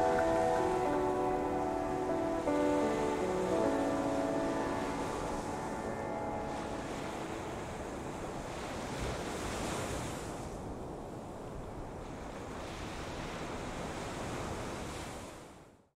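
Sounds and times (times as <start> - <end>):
sea surf rushing: 0.0 - 15.5.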